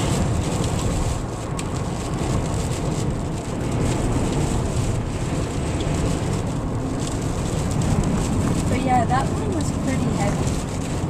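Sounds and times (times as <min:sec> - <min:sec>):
car road and engine rumble: 0:00.0 - 0:11.0
rain on car: 0:00.0 - 0:11.0
wind on car: 0:00.0 - 0:11.0.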